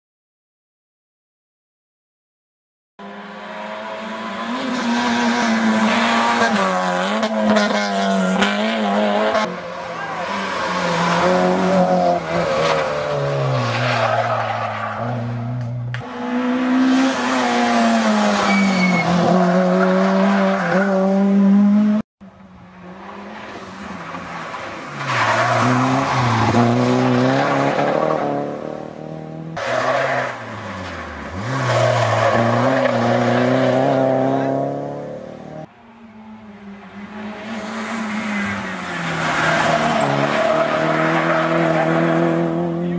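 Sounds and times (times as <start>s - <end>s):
rally car engines revving: 3.0s - 42.9s.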